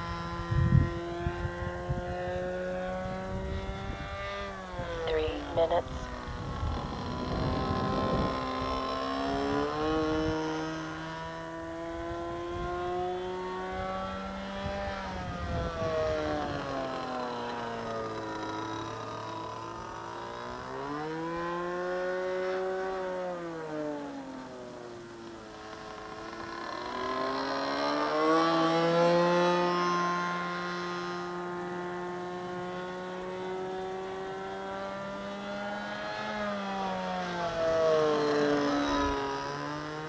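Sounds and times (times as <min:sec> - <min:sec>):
model plane engine: 0:00.0 - 0:40.0.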